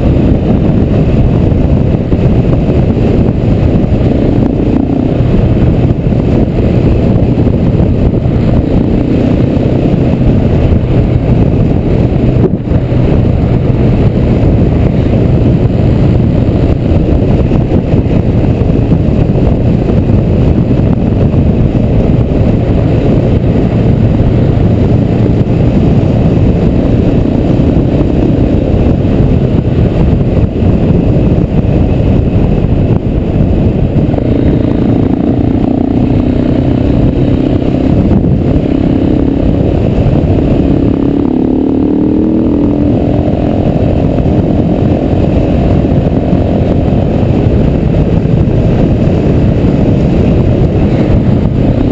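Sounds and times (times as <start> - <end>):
motorcycle engine running: 0.0 - 51.9
wind rush on microphone: 0.0 - 51.9.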